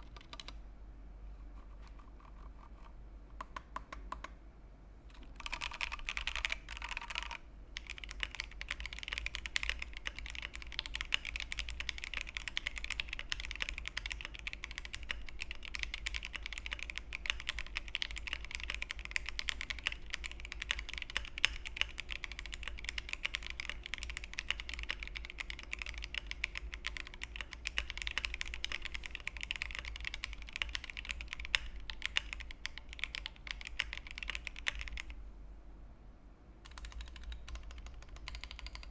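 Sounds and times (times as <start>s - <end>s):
fast mechanical keyboard typing: 0.0s - 0.6s, 5.1s - 35.2s, 36.6s - 38.9s.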